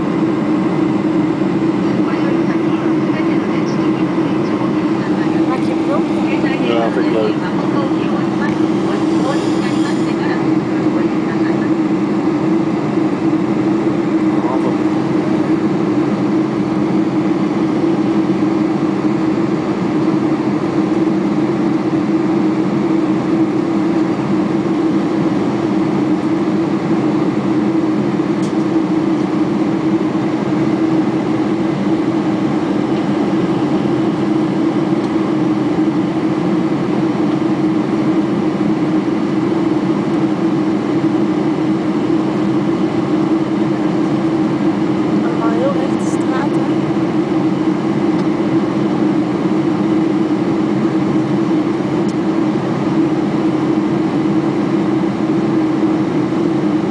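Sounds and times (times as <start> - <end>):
aircraft cabin engine drone: 0.0 - 56.9
low hum: 0.0 - 56.9.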